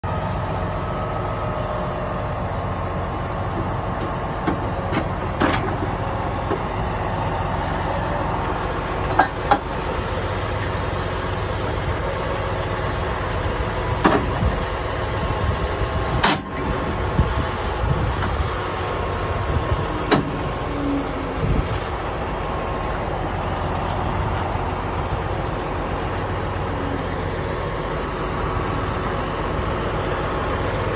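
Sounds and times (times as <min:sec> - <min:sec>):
diesel truck engine idling: 0:00.0 - 0:30.9.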